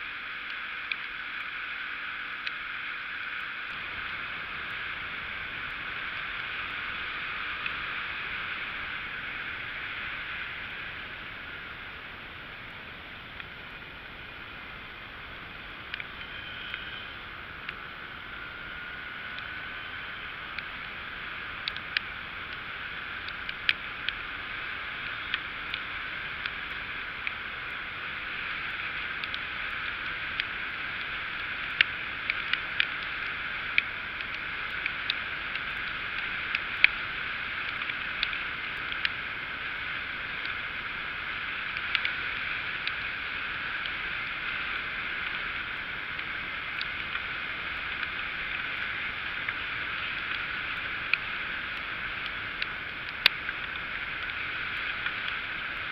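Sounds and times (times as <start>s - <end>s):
moped riding on wet road: 0.0s - 55.9s
raindrops ticking on camera: 0.0s - 55.9s.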